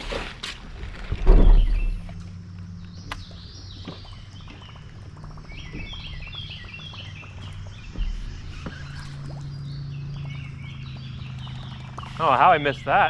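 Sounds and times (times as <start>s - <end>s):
steady low hum: 0.2s - 13.0s
songbird chirping: 1.2s - 13.0s.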